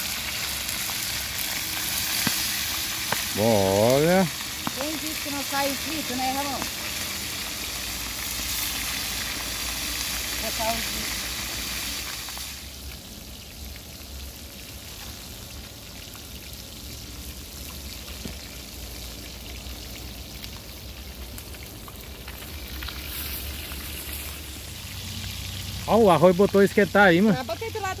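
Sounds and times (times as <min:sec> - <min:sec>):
fish frying in hot oil: 0:00.0 - 0:28.0
oil spattering crackles: 0:00.0 - 0:28.0.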